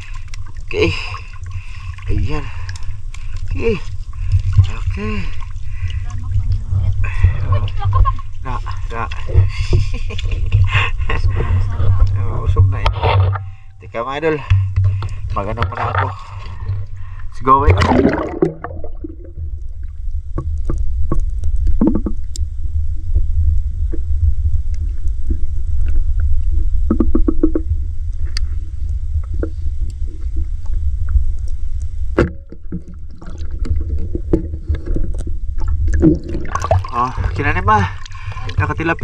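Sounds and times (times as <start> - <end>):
water sloshing and splashing: 0.0 - 22.4, 29.3 - 39.0
steady low rumble: 0.0 - 39.0.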